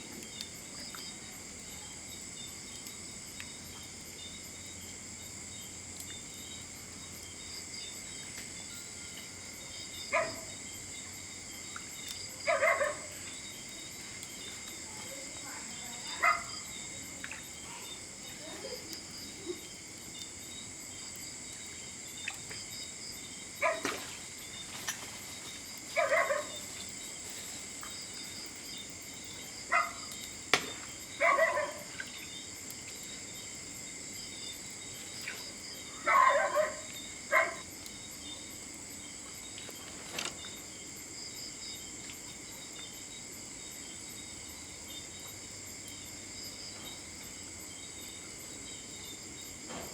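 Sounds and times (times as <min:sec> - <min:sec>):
crickets chirring: 0:00.0 - 0:49.9.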